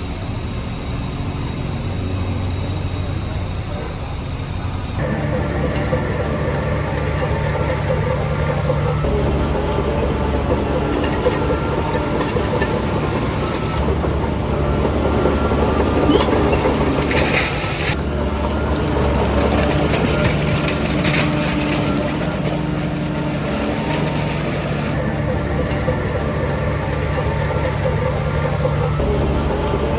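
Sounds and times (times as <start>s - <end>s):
heavy diesel machinery running: 0.0s - 29.9s.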